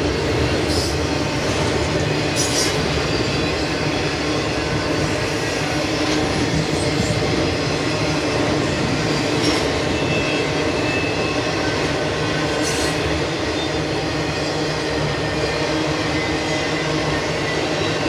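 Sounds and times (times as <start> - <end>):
freight train wheels clattering: 0.0 - 18.0.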